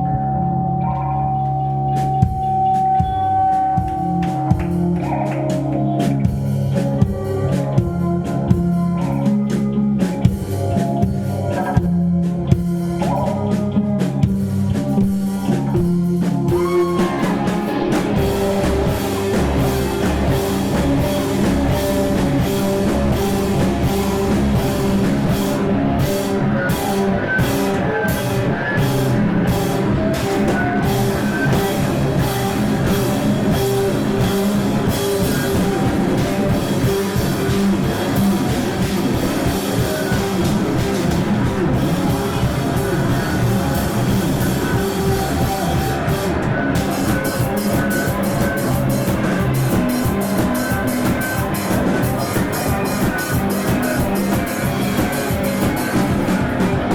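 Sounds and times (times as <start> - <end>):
bass guitar: 0.0 - 56.9
electric guitar: 0.0 - 56.9
drum kit: 1.8 - 56.9.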